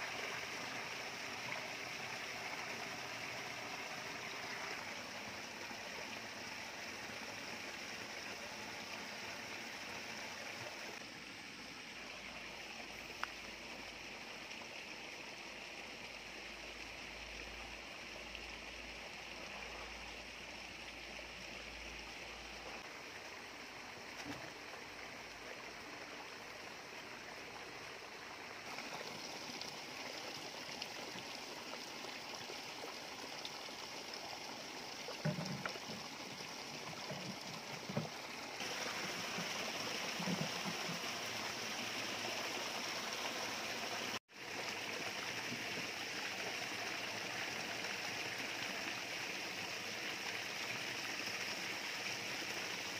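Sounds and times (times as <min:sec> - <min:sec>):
running water rushing: 0:00.0 - 0:52.9.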